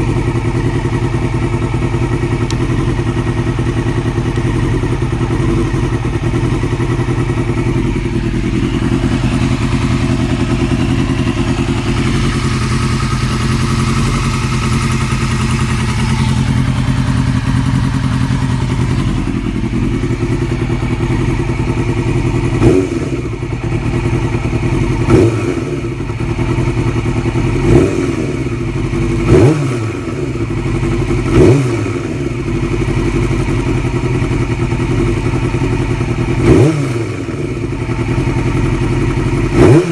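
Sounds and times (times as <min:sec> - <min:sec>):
engine ticking: 0:00.0 - 0:39.9
motorcycle engine idling and revving: 0:00.0 - 0:39.9.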